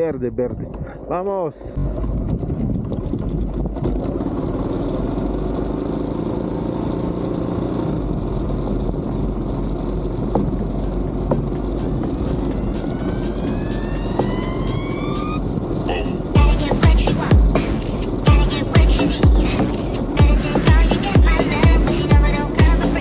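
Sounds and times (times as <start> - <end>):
motorcycle engine rumble: 0.0 - 23.0
wind and road noise: 0.0 - 23.0
rising whine: 1.8 - 23.0.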